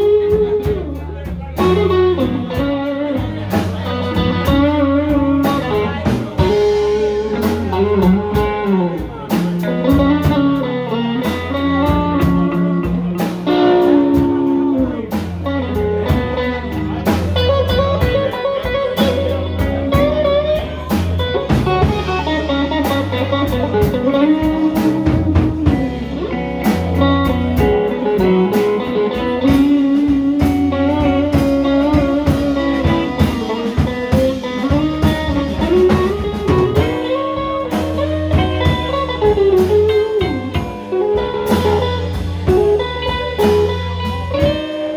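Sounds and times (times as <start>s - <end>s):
bass and drums: 0.0s - 44.9s
electric guitar solo: 0.0s - 44.9s.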